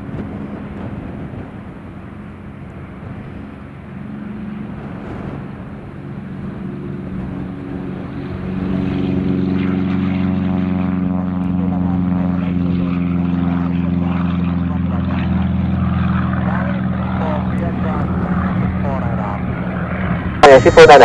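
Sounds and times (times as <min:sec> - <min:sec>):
propeller aircraft engine: 0:00.0 - 0:21.0.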